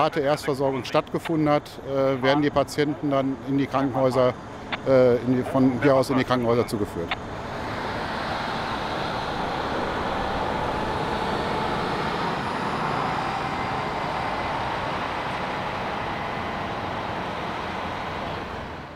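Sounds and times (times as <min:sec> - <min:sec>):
faint steady whine: 0:00.0 - 0:18.9
vehicle engines running: 0:00.0 - 0:18.9.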